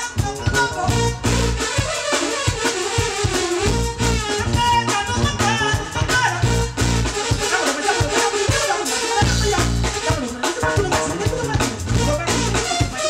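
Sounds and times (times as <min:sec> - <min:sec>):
bass line: 0:00.0 - 0:13.0
drum kit keeping time: 0:00.0 - 0:13.0
jazz melody line: 0:00.0 - 0:13.0.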